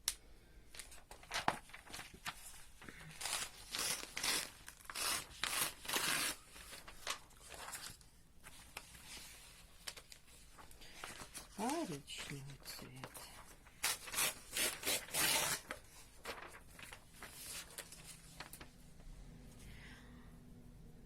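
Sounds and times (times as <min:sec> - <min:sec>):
paper rustling: 0:00.7 - 0:19.1.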